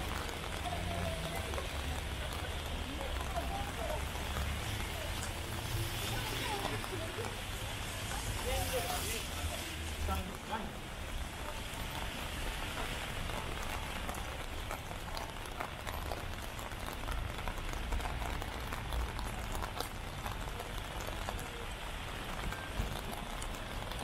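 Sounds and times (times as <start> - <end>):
water drips ticking: 0.0 - 8.6, 9.8 - 24.0
steady rain hiss: 0.0 - 24.0.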